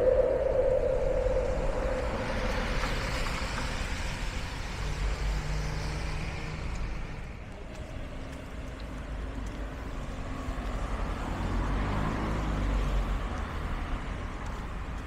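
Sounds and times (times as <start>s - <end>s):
low engine hum: 0.0s - 15.0s
rush of traffic: 0.0s - 15.0s.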